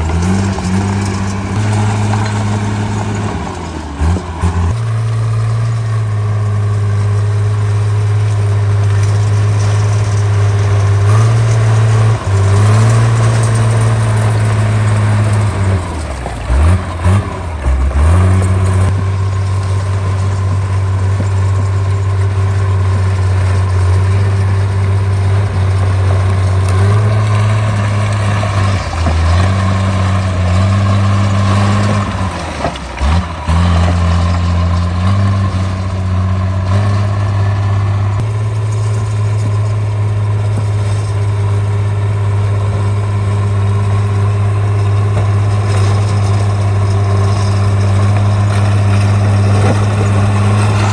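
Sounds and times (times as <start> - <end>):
bulldozer diesel engine under load: 0.0 - 50.9.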